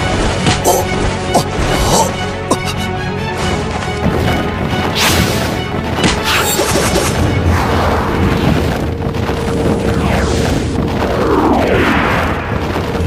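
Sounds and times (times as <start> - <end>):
dramatic battle music: 0.0 - 13.0.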